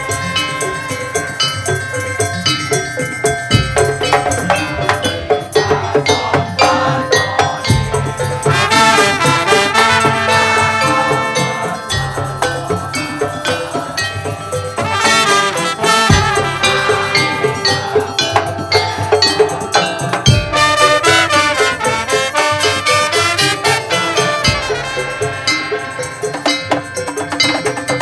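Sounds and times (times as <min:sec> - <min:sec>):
percussion ensemble playing: 0:00.0 - 0:28.0.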